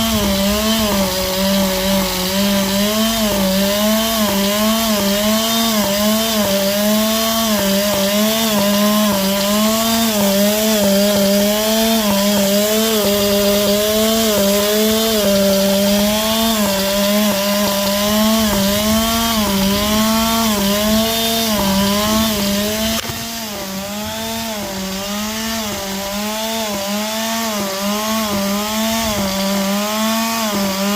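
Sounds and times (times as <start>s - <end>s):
hedge trimmer engine surging: 0.0s - 30.9s.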